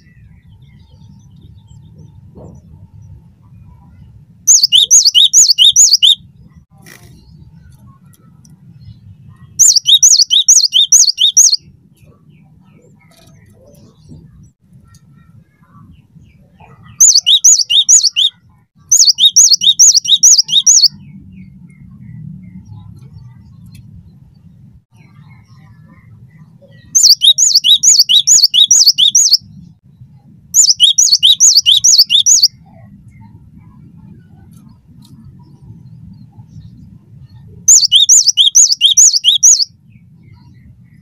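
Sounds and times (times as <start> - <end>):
bird singing whistled notes: 0.0 - 8.1, 8.7 - 11.7, 15.7 - 23.6, 24.9 - 29.8, 30.6 - 41.0.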